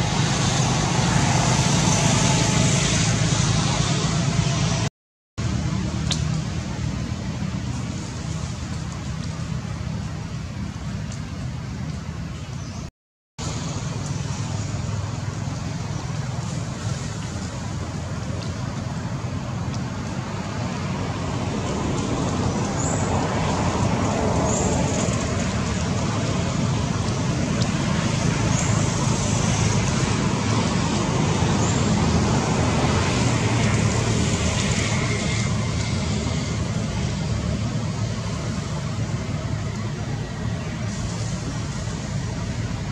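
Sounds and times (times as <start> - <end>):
low outdoor rumble and hiss: 0.0 - 42.9.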